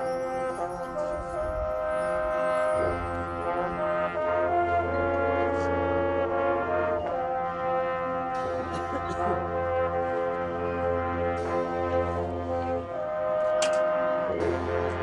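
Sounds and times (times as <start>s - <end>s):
brass band playing held chords: 0.0s - 15.0s.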